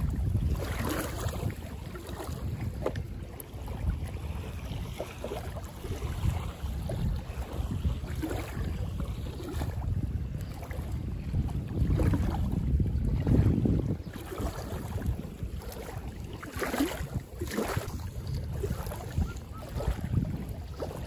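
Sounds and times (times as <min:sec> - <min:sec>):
small waves lapping: 0:00.0 - 0:21.0
wind buffeting microphone: 0:00.0 - 0:21.0.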